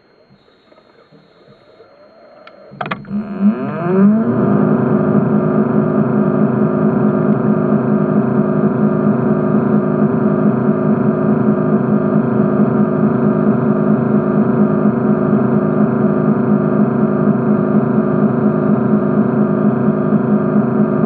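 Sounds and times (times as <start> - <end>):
motor humming underwater: 0.0 - 21.0.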